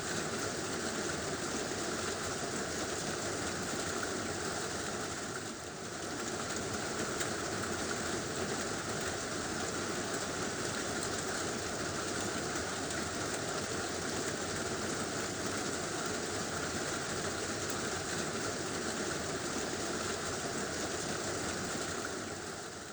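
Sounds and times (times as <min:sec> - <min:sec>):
heavy rain on a tin roof: 0:00.0 - 0:22.9.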